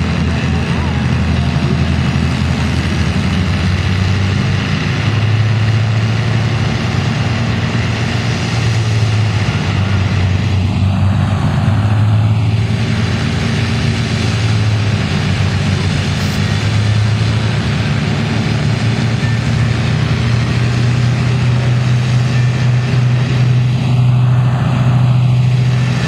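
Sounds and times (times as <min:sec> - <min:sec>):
piston aircraft engines droning: 0:00.0 - 0:26.0.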